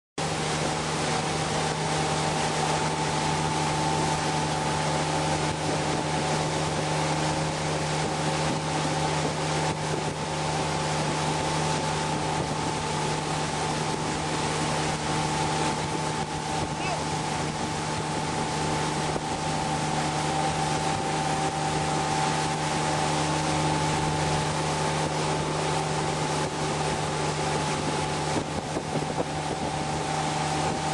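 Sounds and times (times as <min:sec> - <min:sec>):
boat engine droning: 0:00.2 - 0:30.9
rushing water: 0:00.2 - 0:30.9
wind: 0:00.2 - 0:30.9.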